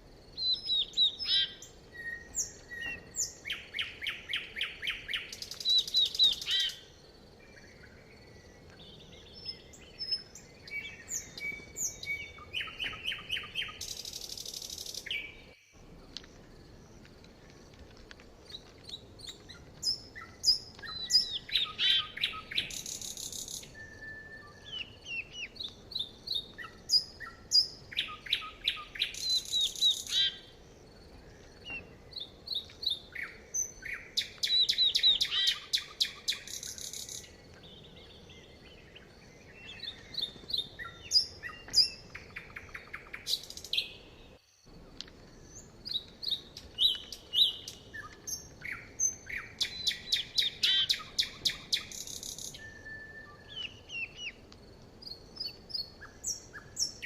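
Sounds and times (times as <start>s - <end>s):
birds chirping: 0.2s - 57.0s
songbird trilling: 0.4s - 6.9s, 7.5s - 15.6s, 18.5s - 30.5s, 31.6s - 44.2s, 45.3s - 54.4s.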